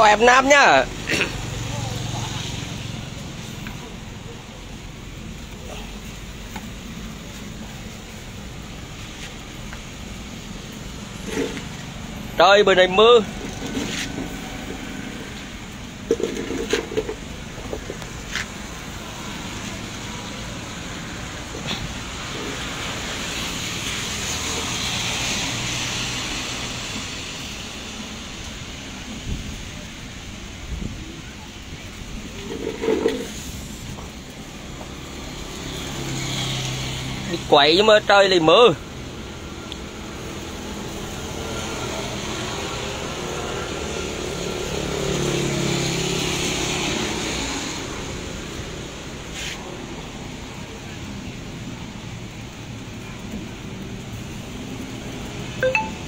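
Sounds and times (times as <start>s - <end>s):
low steady traffic rumble: 0.0s - 56.0s
steady rain: 0.0s - 56.0s
tyre hiss on wet road: 0.0s - 56.0s.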